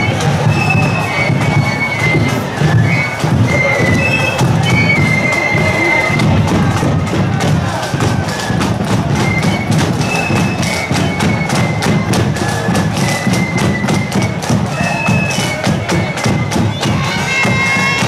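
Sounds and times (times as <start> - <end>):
bass drum beating: 0.0 - 18.0
high flutes playing melody: 0.0 - 18.0
side drums beating: 0.0 - 18.0.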